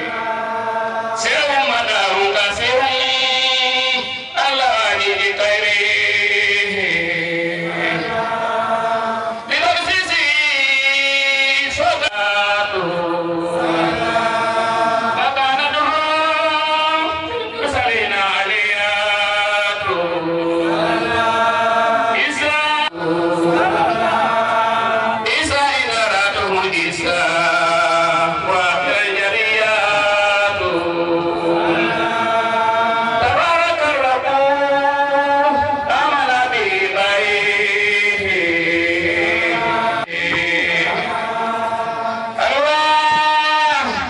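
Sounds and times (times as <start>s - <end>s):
group chanting: 0.0s - 10.3s, 10.9s - 44.0s.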